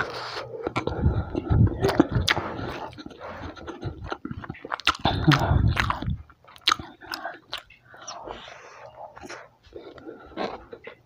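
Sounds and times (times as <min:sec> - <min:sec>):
person chewing with wet smacks: 0:00.6 - 0:11.0.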